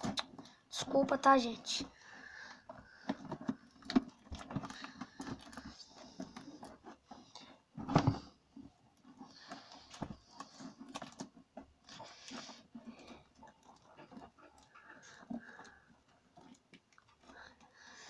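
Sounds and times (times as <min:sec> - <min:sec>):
hands working on plastic tub: 0:00.0 - 0:18.0.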